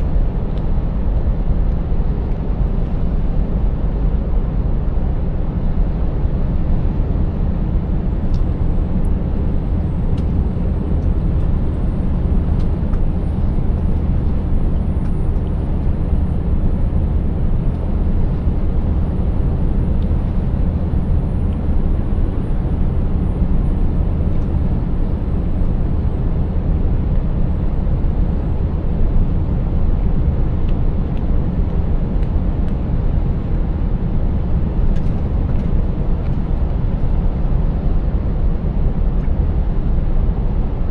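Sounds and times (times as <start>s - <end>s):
diesel truck engine droning: 0.0s - 40.9s
road noise: 0.0s - 40.9s.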